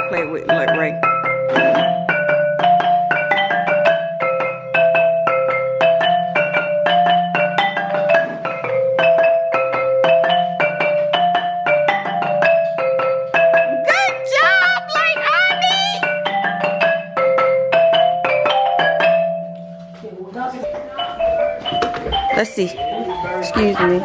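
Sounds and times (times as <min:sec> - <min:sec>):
xylophone notes struck: 0:00.0 - 0:19.7.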